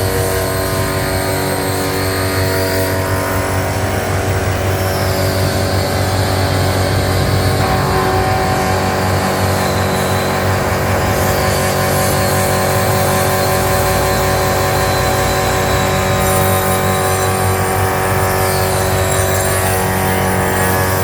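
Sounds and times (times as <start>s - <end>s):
woodworking machine humming: 0.0s - 21.0s.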